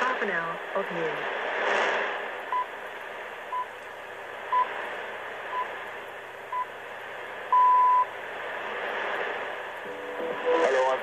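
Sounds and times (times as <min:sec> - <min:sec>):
shortwave hiss: 0:00.0 - 0:11.0.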